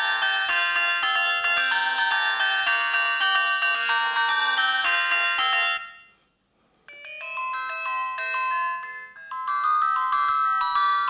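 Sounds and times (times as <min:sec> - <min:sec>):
electronic ringtone melody: 0:00.0 - 0:06.2, 0:06.9 - 0:11.0.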